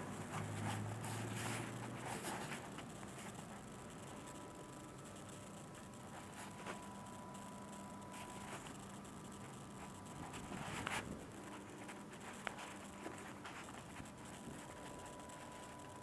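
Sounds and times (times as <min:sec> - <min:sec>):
steady high hum: 0:00.0 - 0:16.0.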